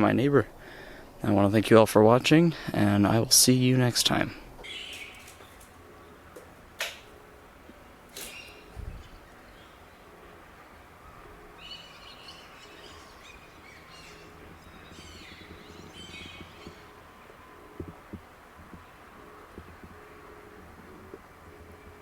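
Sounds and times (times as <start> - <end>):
low background hum: 0.0 - 22.0
birds chirping: 4.1 - 22.0.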